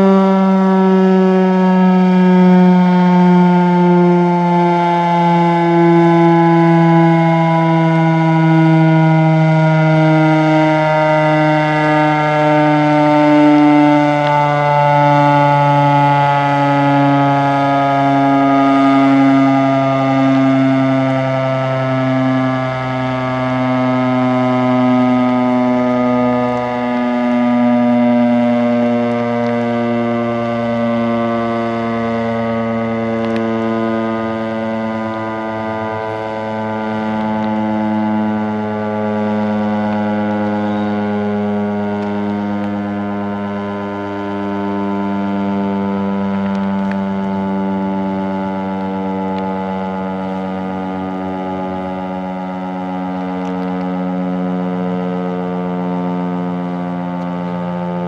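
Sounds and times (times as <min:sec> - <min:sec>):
warning siren steady alert tone: 0:00.0 - 0:58.0.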